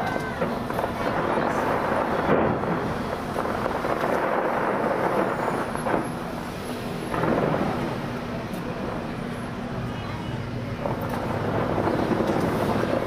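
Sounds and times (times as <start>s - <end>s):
distant fireworks booming: 0.0s - 13.0s.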